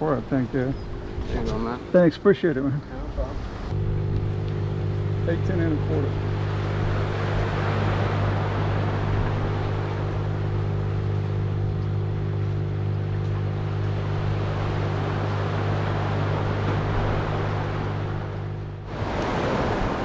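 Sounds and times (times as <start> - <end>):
engine droning: 0.0 - 20.0
wind and water hiss: 0.0 - 20.0.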